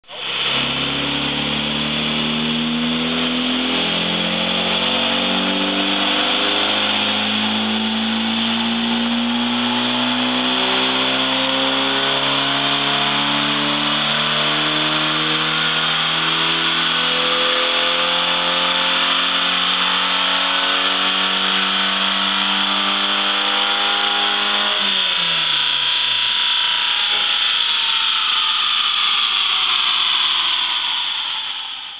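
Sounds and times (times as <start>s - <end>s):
car engine revving at full throttle: 0.0s - 31.9s.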